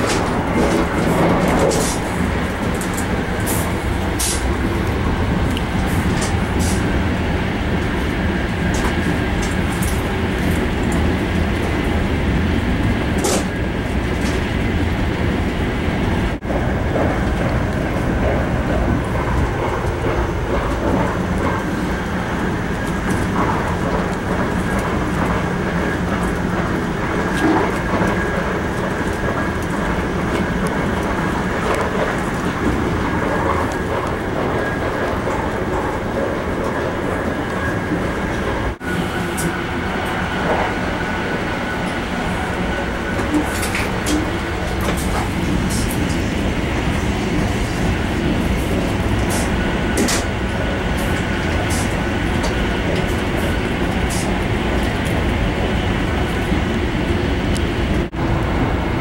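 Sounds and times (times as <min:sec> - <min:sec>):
train running noise inside carriage: 0:00.0 - 0:59.0.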